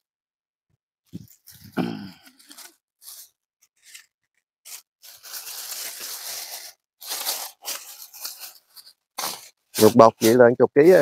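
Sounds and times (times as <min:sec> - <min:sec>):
plastic bag rustling: 0:01.1 - 0:04.1, 0:04.7 - 0:11.0.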